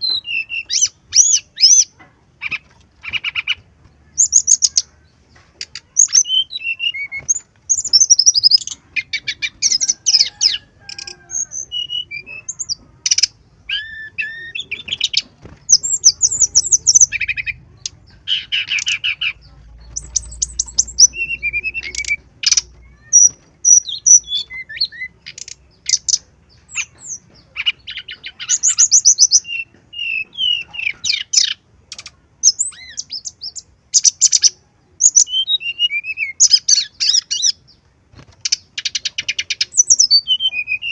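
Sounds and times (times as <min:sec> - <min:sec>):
bird singing trills and chirps: 0:00.0 - 0:40.9.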